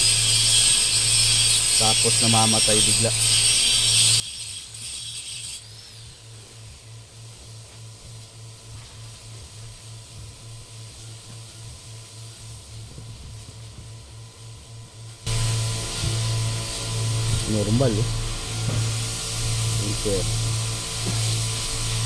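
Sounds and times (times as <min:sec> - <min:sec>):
hiss: 0:00.0 - 0:22.0.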